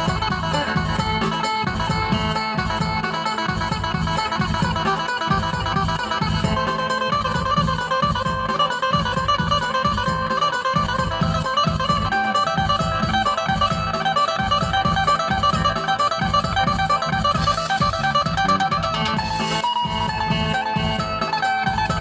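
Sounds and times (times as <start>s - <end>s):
plucked lute melody: 0.0s - 22.0s
steady low beat: 0.0s - 22.0s.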